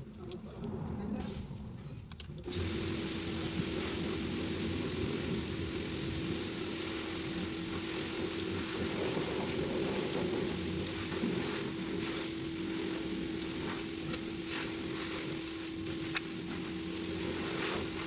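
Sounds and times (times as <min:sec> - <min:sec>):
machine humming: 0:02.4 - 0:18.0.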